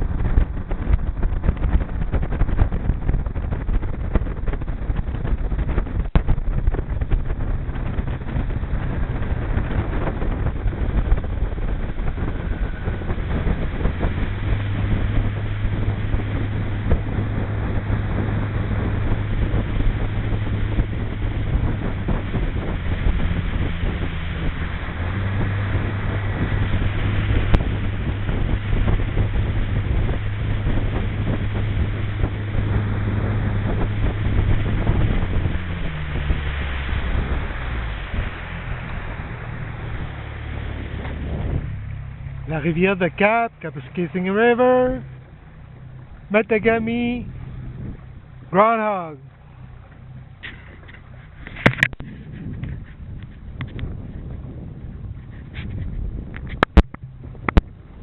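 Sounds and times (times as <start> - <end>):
motorboat engine humming: 0.0 - 58.0
water against hull: 0.0 - 58.0
wind on microphone: 0.0 - 58.0.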